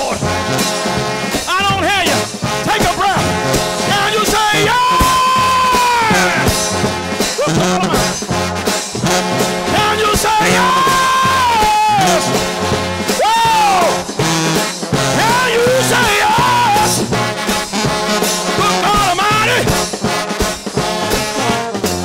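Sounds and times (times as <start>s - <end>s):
steady bass beat: 0.0s - 22.0s
trombone brass band playing: 0.0s - 22.0s.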